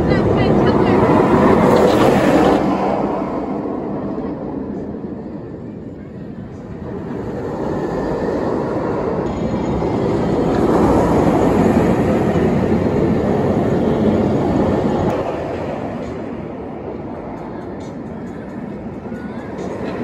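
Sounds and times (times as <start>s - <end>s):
roller coaster train roaring: 0.0s - 20.0s.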